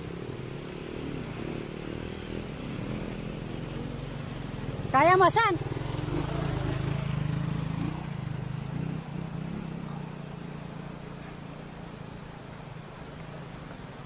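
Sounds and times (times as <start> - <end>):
motorcycle engine riding off: 0.0 - 13.9.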